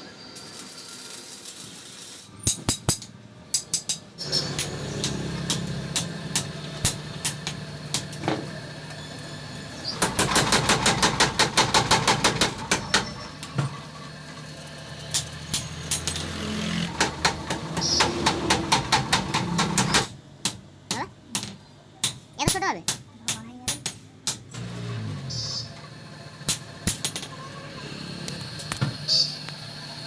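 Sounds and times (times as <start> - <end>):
steady motor hum: 4.2 - 21.7, 22.5 - 30.0.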